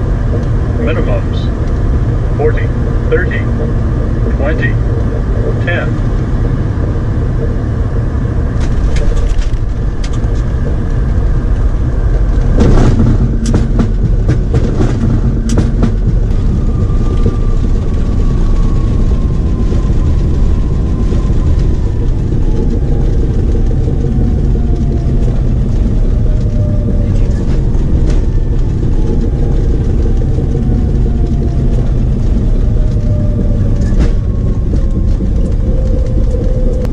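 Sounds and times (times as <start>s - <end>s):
engines and wheels rumbling: 0.0s - 36.9s
knocks and clatters: 0.0s - 36.9s.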